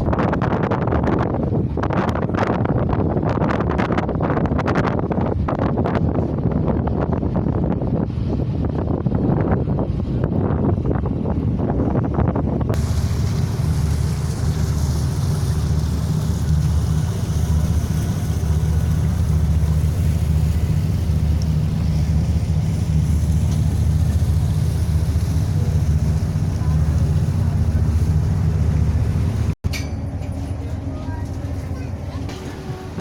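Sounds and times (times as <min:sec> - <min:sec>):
ferry engines droning: 0:05.1 - 0:33.0.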